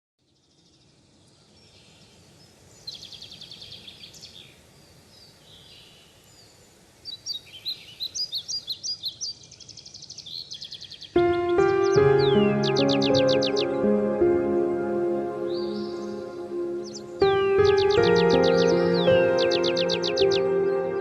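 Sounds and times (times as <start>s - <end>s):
songbirds singing: 0.2s - 21.0s
faint steady hiss: 0.3s - 21.0s.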